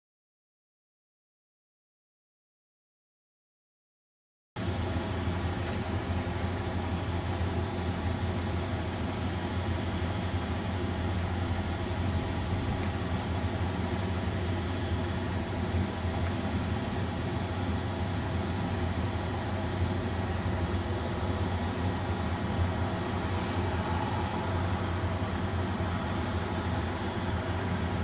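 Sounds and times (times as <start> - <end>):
road noise: 4.6 - 28.0
vehicle engine drone: 4.6 - 28.0.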